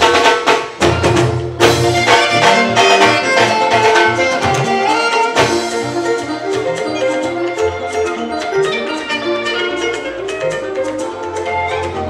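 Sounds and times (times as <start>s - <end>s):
drum beat: 0.0s - 12.0s
held melodic notes: 0.8s - 12.0s.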